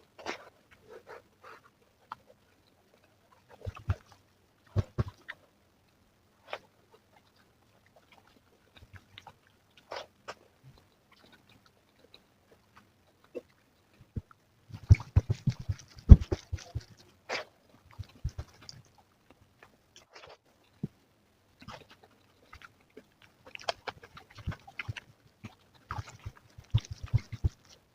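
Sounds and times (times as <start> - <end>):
chewing and smacking: 0.2 - 5.5, 6.4 - 21.0, 21.6 - 27.9.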